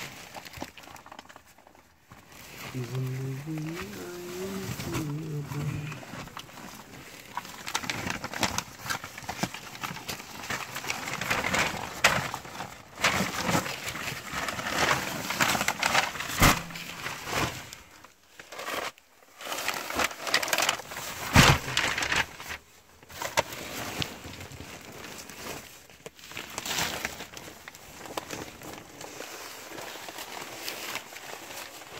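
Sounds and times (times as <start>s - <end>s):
paper rustling and crinkling: 0.0s - 31.9s.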